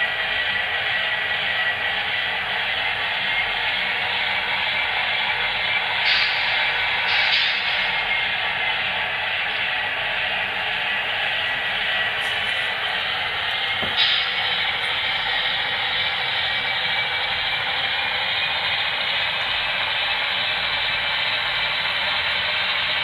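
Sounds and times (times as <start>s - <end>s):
model train diesel engine rumble: 0.0s - 23.0s.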